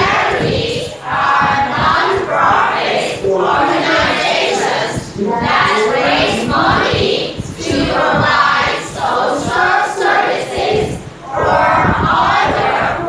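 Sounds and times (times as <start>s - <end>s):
class reading aloud in unison: 0.0s - 13.0s.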